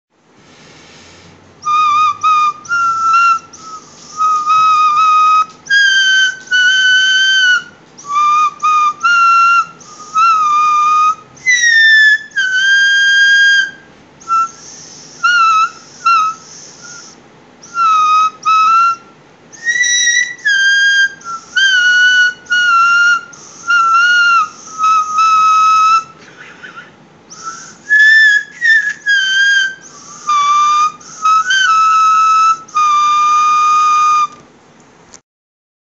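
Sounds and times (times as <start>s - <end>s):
high whistle blasts: 1.6s - 26.2s, 27.3s - 34.4s.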